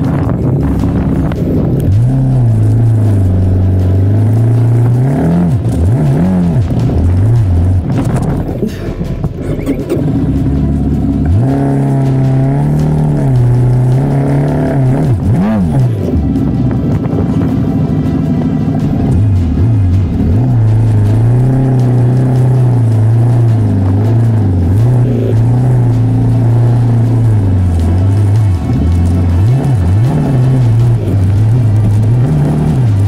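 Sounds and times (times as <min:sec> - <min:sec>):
low wind rumble: 0:00.0 - 0:33.0
motorcycle engine: 0:00.0 - 0:33.0.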